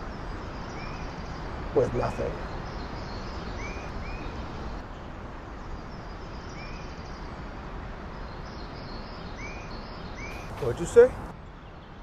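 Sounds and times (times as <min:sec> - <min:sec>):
bird chirping: 0:00.0 - 0:12.0
outdoor background noise: 0:00.0 - 0:12.0.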